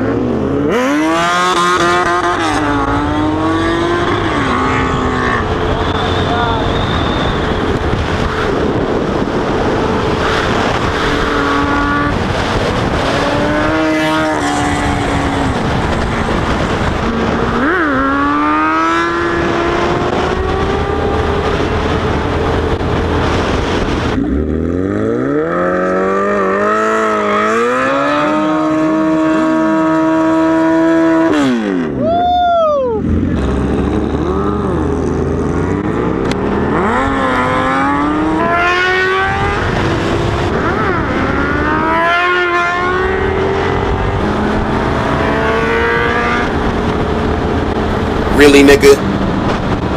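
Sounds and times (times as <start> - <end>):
motorcycle engines revving: 0.0 - 49.9
wind rush on microphone: 0.0 - 49.9.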